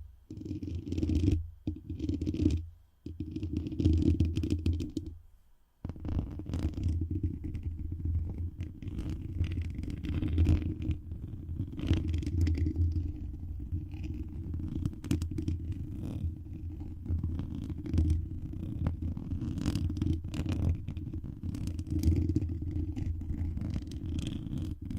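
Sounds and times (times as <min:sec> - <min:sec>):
rubbing on microphone: 0:00.0 - 0:05.2, 0:05.8 - 0:24.9
small clicks and scratches: 0:00.3 - 0:05.2, 0:05.8 - 0:24.9.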